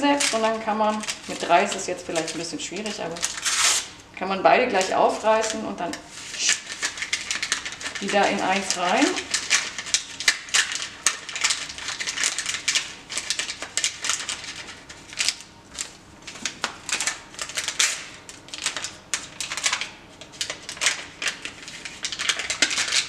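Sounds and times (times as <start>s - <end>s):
paper sachets rustling and crinkling: 0.0s - 4.0s, 4.7s - 23.0s.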